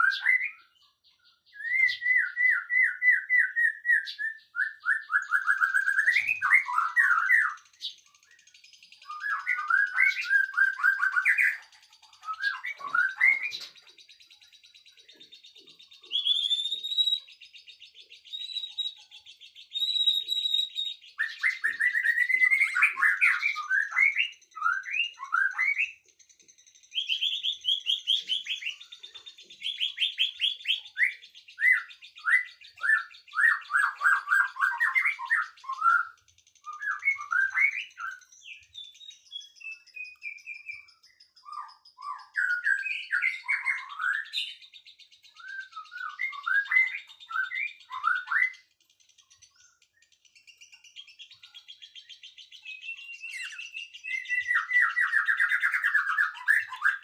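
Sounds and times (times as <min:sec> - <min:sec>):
faint high bird trill: 0:00.0 - 0:57.0
songbirds chirping: 0:00.0 - 0:57.0.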